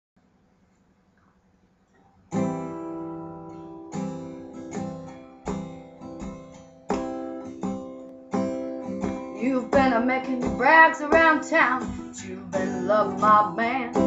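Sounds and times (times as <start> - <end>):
acoustic guitar strumming chords: 2.3 - 14.0.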